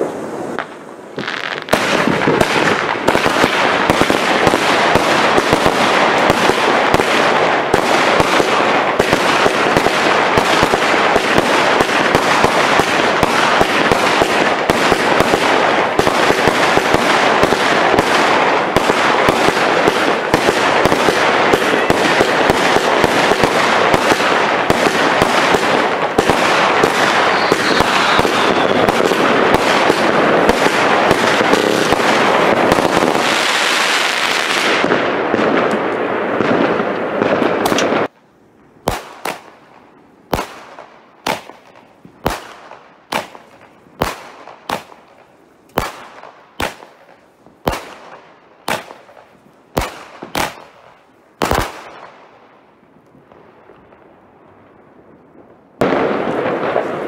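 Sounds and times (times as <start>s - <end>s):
single loud firework shots: 0.0s - 38.1s, 38.8s - 52.3s, 55.8s - 57.0s
fireworks crackling and banging: 0.0s - 57.0s.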